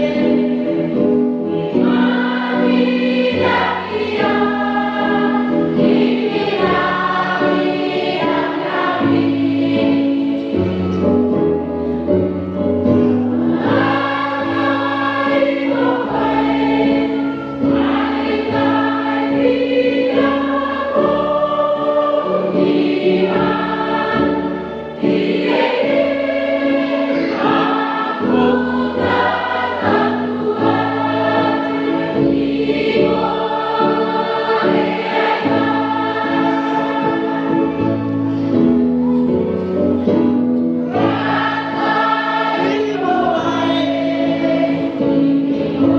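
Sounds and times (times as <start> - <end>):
choir singing a hymn: 0.0 - 45.9.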